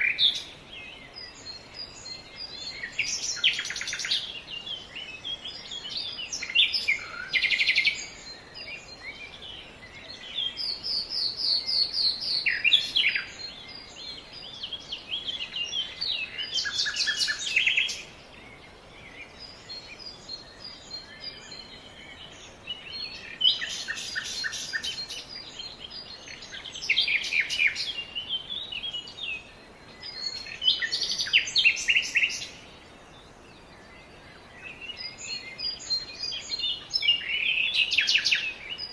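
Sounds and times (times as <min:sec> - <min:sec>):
faint background hiss: 0:00.0 - 0:38.9
songbirds chirping and trilling: 0:00.0 - 0:38.9.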